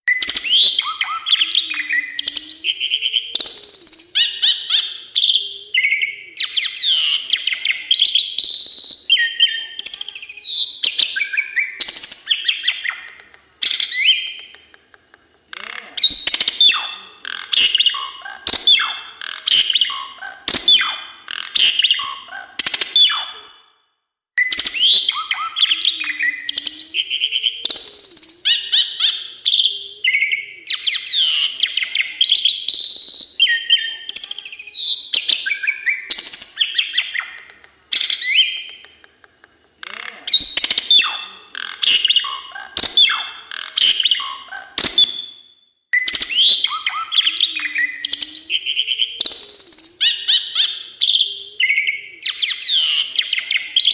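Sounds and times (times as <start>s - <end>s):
starling singing whistles and chatter: 0.1s - 14.5s, 15.5s - 23.6s, 24.4s - 38.8s, 39.8s - 53.9s.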